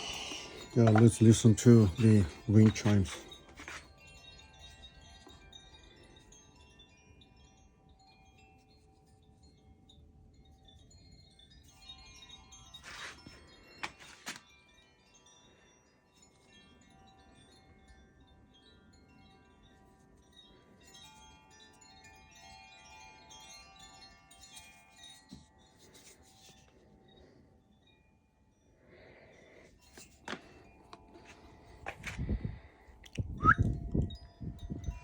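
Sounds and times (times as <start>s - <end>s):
wind chimes ringing: 0.0s - 35.0s.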